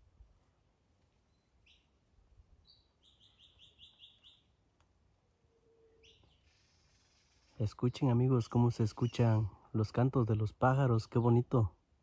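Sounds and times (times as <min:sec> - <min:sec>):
faint songbird song: 0:00.0 - 0:12.0.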